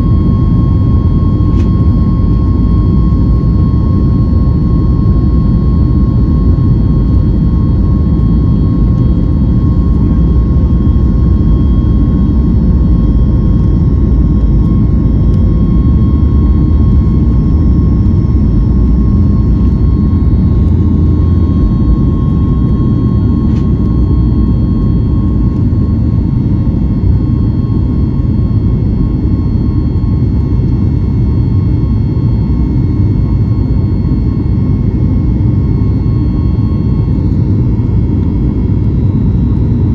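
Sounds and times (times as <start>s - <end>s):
faint steady hum: 0.0s - 39.9s
jet engine cabin rumble: 0.0s - 39.9s.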